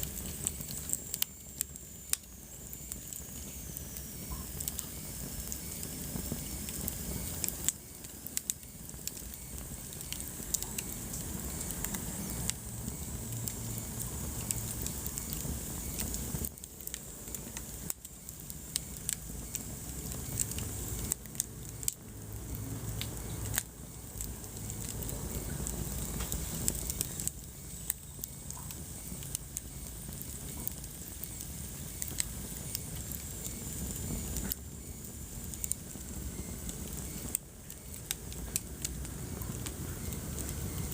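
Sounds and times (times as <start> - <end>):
fire pops and snaps: 0.0 - 40.9
logs burning: 0.0 - 40.9.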